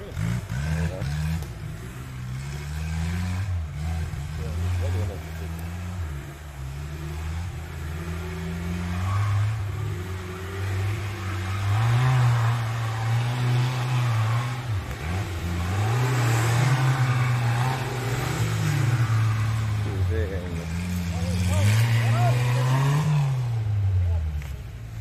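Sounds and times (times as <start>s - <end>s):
racing engine revving: 0.0s - 25.0s.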